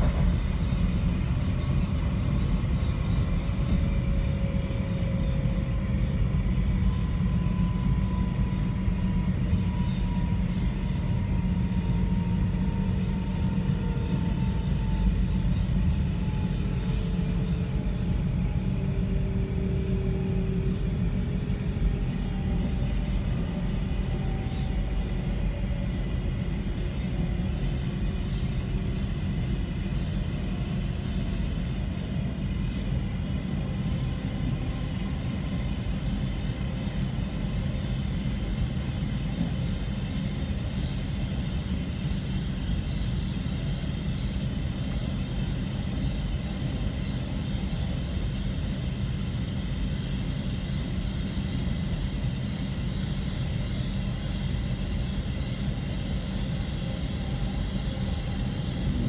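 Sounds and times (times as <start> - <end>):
train cabin rumble: 0.0 - 52.2, 52.8 - 59.0.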